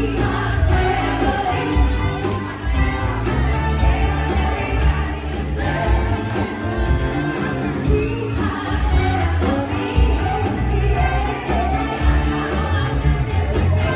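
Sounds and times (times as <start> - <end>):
pop music with singer: 0.0 - 13.9.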